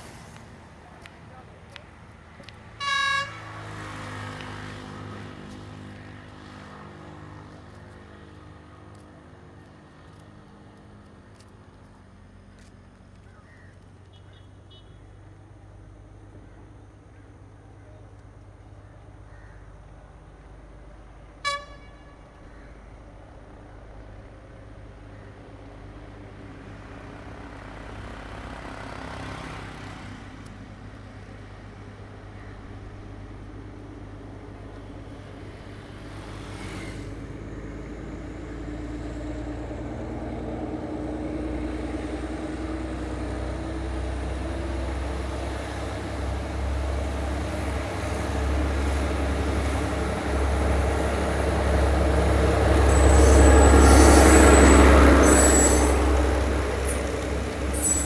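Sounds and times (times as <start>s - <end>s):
diesel train engine hum: 0.0s - 58.0s.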